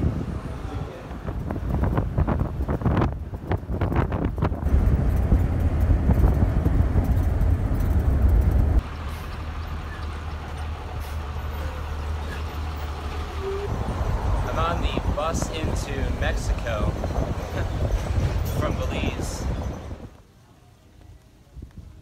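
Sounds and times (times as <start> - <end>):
bus engine rumble: 0.0 - 22.0
road noise: 0.0 - 22.0.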